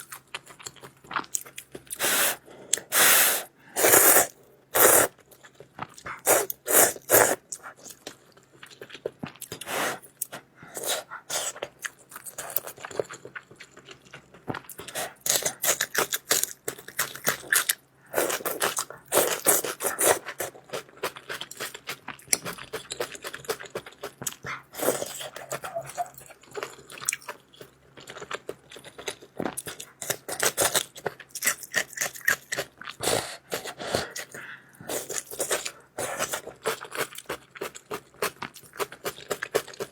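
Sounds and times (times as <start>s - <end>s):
person chewing noodles: 0.0s - 39.9s.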